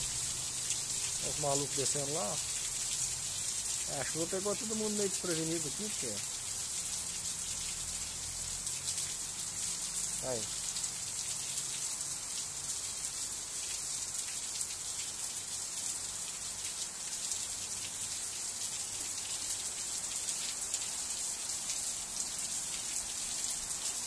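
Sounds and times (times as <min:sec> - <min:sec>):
heavy rain on pavement and roof: 0:00.0 - 0:24.0.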